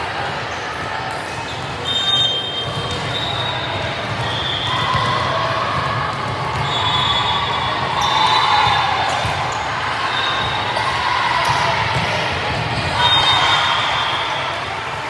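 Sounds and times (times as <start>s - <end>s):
hubbub of voices: 0.0s - 15.0s.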